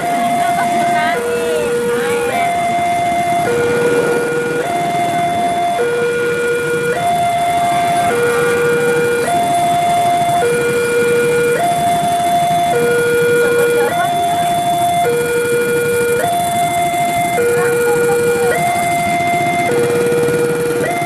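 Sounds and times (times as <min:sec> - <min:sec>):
level crossing two-tone alarm: 0:00.0 - 0:21.0
steady rumbling: 0:00.0 - 0:21.0.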